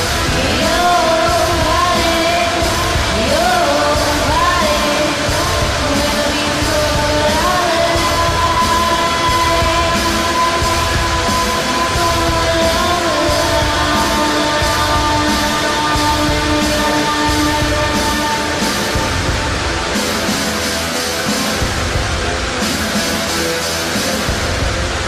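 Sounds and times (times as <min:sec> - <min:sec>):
person singing: 0:00.0 - 0:20.6
rock music: 0:00.0 - 0:25.0.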